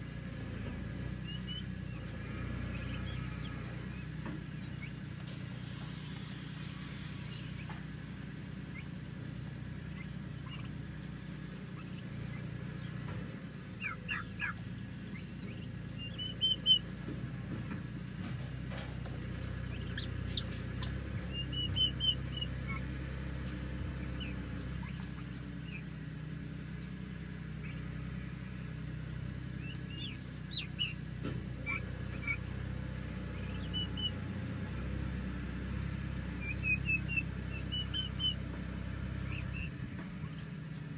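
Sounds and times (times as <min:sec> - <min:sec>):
steady low hum: 0:00.0 - 0:40.9
turkey poults chirping: 0:00.0 - 0:40.9.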